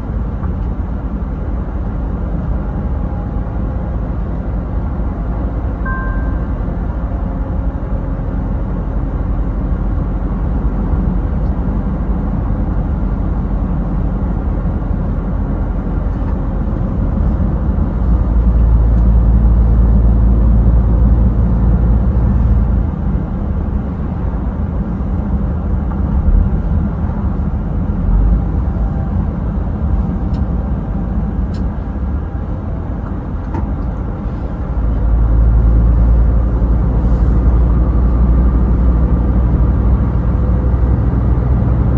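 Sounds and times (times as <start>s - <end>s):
truck engine and road rumble: 0.0s - 41.9s.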